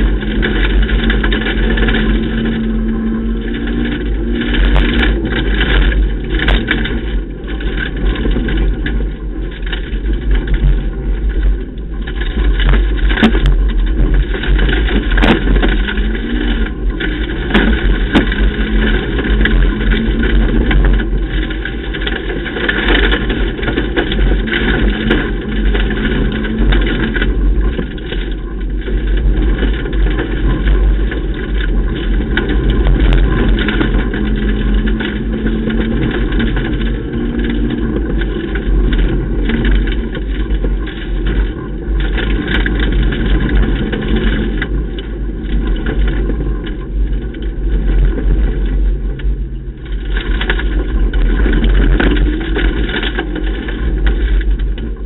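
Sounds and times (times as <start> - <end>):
loud road noise: 0.0 - 55.0
rally car engine pulling hard: 0.0 - 55.0.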